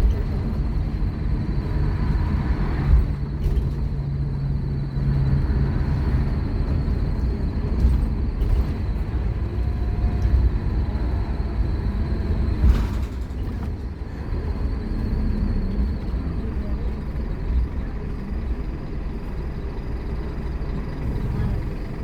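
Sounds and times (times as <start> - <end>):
bus diesel engine accelerating: 0.0 - 22.0.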